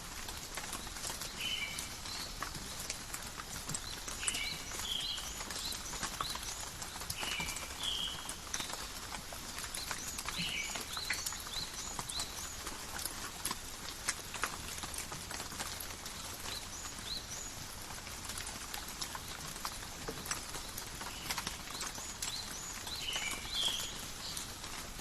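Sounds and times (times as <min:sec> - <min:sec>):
forest rain: 0:00.0 - 0:25.0
raindrops pattering: 0:00.0 - 0:25.0.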